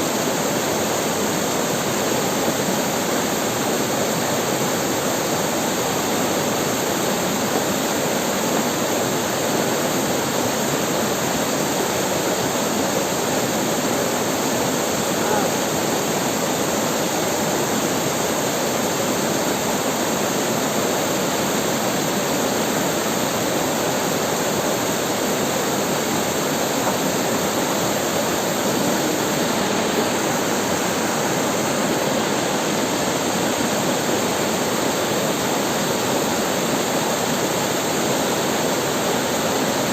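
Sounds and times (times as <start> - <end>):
river water splashing over rocks: 0.0 - 39.9.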